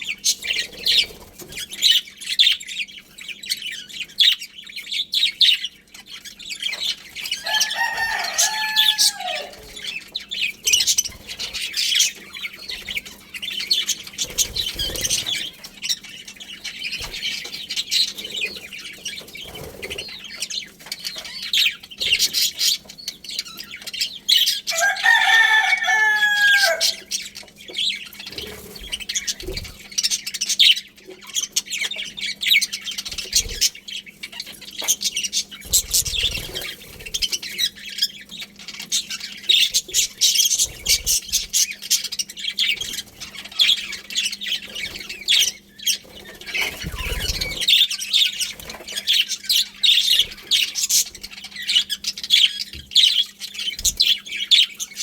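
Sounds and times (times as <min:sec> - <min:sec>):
budgies chattering: 0:00.0 - 0:55.0.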